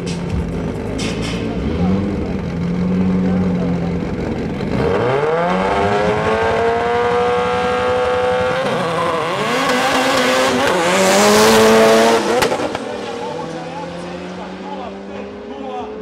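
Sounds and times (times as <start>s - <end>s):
drag car engines at full throttle: 0.0s - 16.0s.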